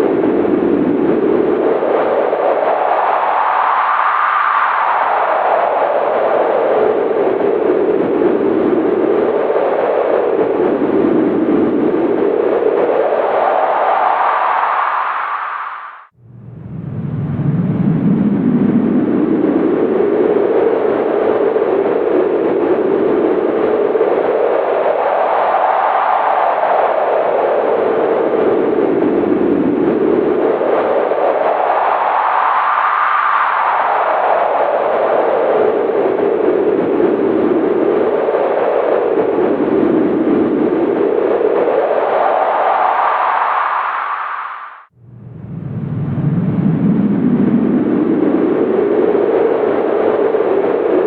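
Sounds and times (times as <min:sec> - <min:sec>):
howling wind: 0:00.0 - 0:51.0.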